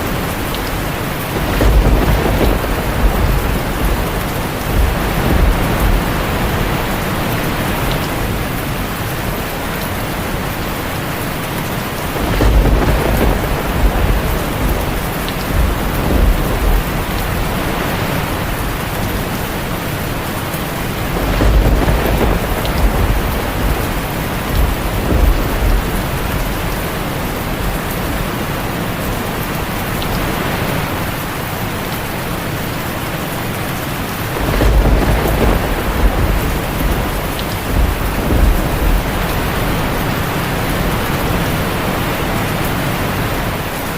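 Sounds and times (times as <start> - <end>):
thunder rumbling: 0.0 - 31.1, 34.1 - 43.8
heavy rain on a tin roof: 0.0 - 43.9.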